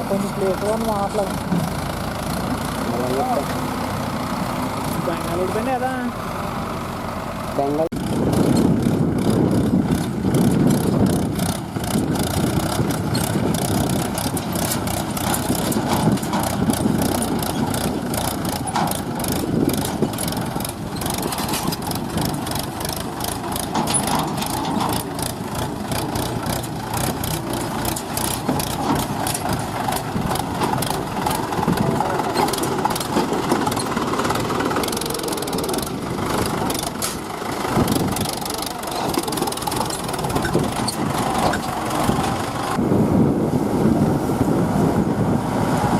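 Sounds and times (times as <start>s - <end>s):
diesel engine knocking rattle: 0.0s - 6.3s, 7.3s - 42.8s.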